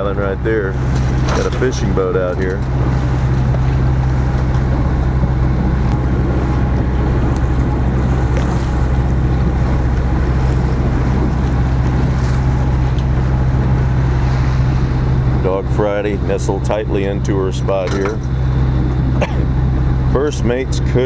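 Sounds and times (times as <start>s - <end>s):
boat engine humming: 0.0s - 21.0s
rushing water: 0.0s - 21.0s
wind: 0.0s - 21.0s.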